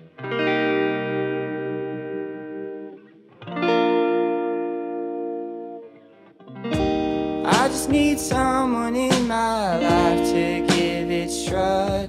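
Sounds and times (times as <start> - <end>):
electric guitar chords ringing: 0.0 - 12.0.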